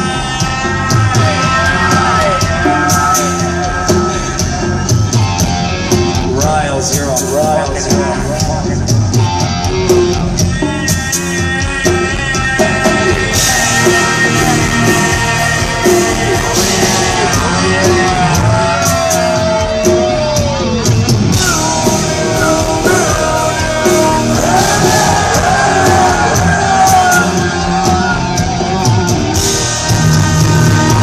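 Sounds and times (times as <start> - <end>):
drums keeping a beat: 0.0 - 31.0
live rock band playing: 0.0 - 31.0.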